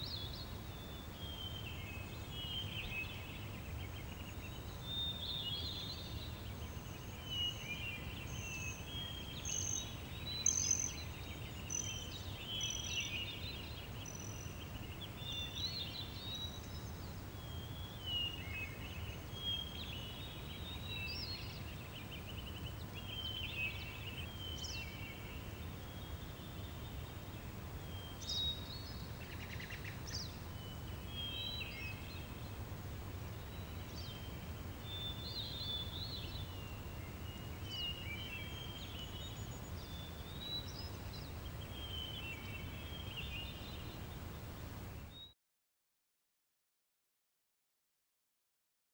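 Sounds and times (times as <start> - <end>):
small birds chirping: 0.0 - 45.3.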